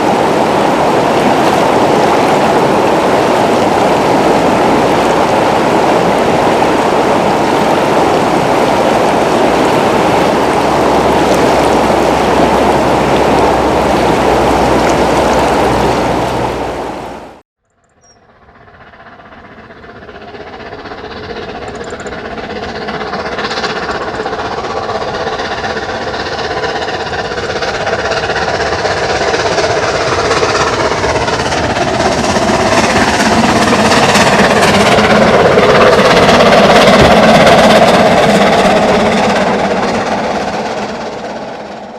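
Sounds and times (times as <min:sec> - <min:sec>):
steam locomotive exhaust beats: 0:00.0 - 0:17.4, 0:18.2 - 0:41.9.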